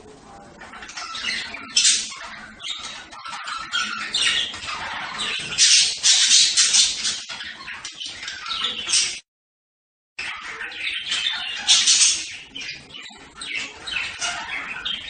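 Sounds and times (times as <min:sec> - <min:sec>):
budgerigars chattering: 0:00.6 - 0:09.2, 0:10.2 - 0:15.0.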